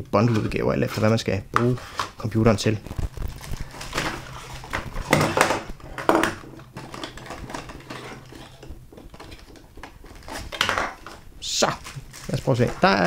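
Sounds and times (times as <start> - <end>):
cardboard packaging rustling: 0.2 - 13.0.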